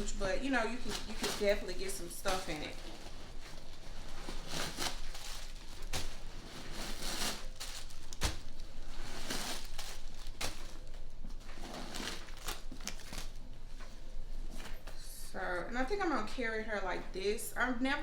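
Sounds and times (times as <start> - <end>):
handbag rustling and crinkling: 0.0 - 15.0.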